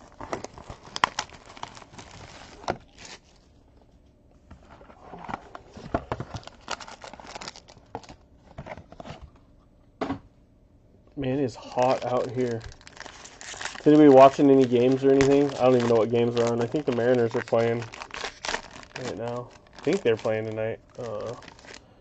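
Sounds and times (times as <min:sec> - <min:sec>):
packaging crinkling and rustling: 0:00.0 - 0:09.4, 0:11.7 - 0:21.9.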